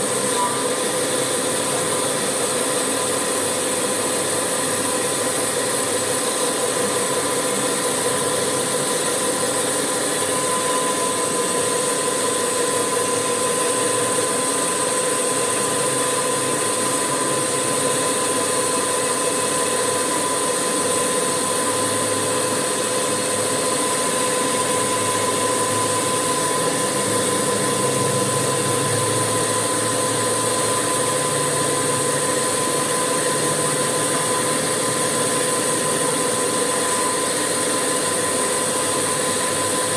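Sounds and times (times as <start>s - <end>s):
machinery drone with whine: 0.0s - 39.9s.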